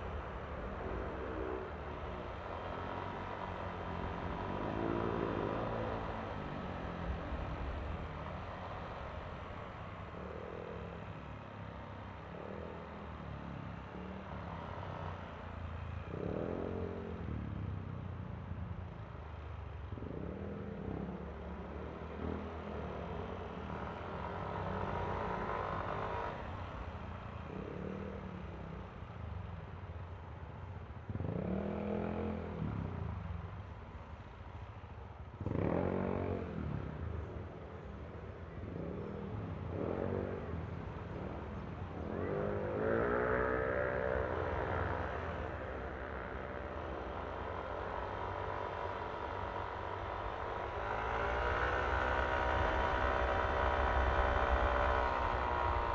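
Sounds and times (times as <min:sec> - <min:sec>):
road rumble: 0:00.0 - 0:55.9.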